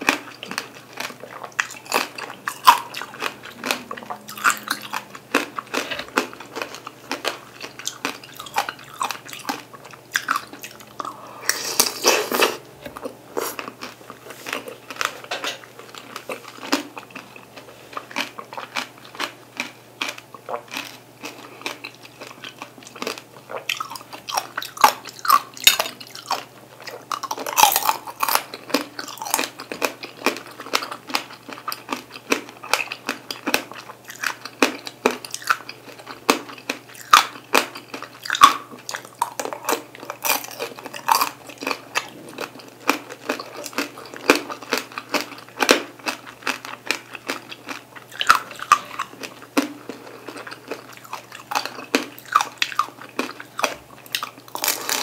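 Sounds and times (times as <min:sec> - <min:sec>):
hard sugar glaze crunching: 0:00.0 - 0:55.0
wet chewing: 0:00.0 - 0:55.0.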